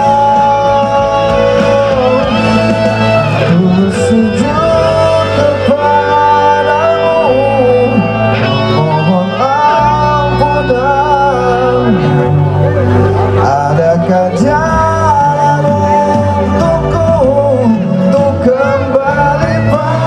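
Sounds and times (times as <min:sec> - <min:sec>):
live band with guitar: 0:00.0 - 0:20.0
man singing into microphone: 0:00.0 - 0:20.0.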